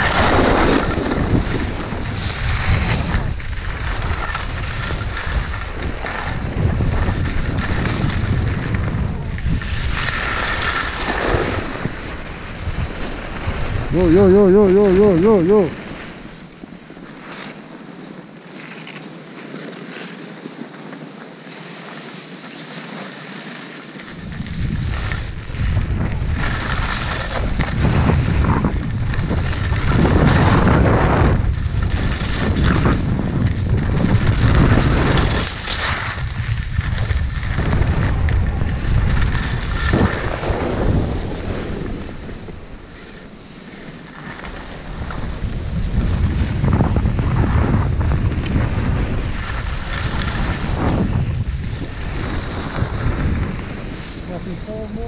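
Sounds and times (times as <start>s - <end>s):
wind buffeting microphone: 0.0s - 17.1s, 24.1s - 43.8s, 44.6s - 55.0s
ski edges carving snow: 0.0s - 55.0s.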